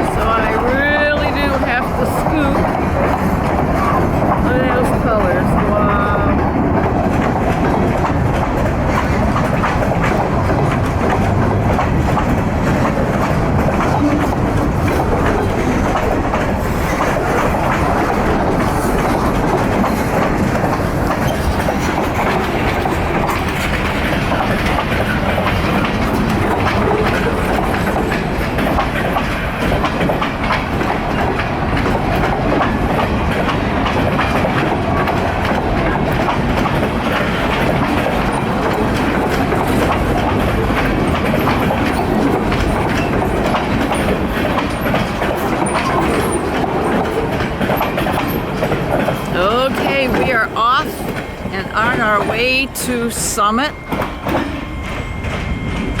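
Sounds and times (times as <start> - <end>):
freight train cars rolling past: 0.0 - 56.0
wheels clacking over rail joints: 0.0 - 56.0.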